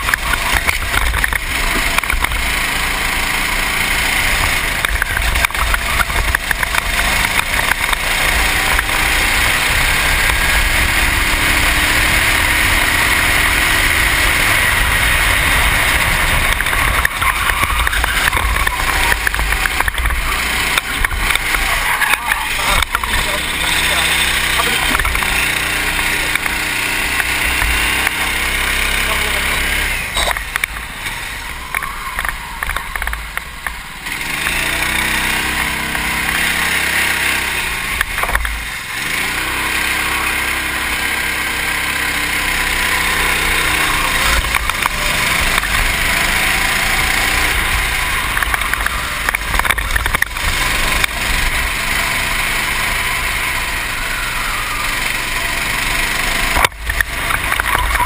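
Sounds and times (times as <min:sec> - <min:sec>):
racing kart engine revving: 0:00.0 - 0:58.0.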